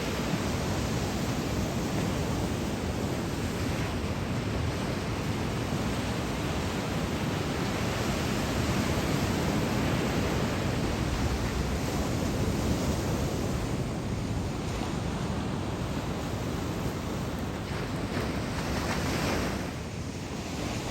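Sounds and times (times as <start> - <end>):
ocean surf breaking: 0.0 - 20.9
wind noise on microphone: 0.0 - 20.9.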